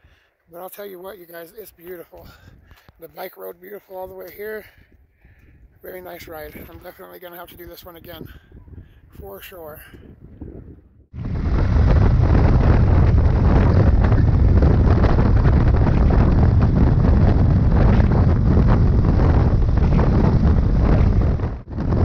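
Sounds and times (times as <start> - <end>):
wind buffeting microphone: 1.3 - 3.0, 3.7 - 22.0.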